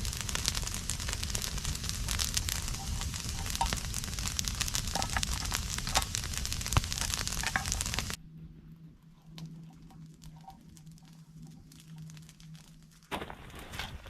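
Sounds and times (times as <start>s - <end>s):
campfire crackling and popping: 0.0s - 8.2s, 9.3s - 14.0s
low fire rumble: 0.0s - 14.0s.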